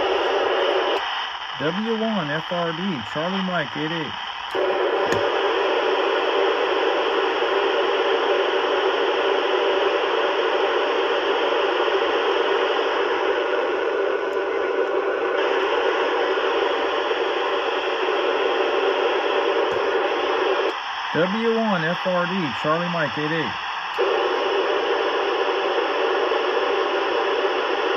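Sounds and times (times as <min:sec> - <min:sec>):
radio static hiss: 0:00.0 - 0:27.9.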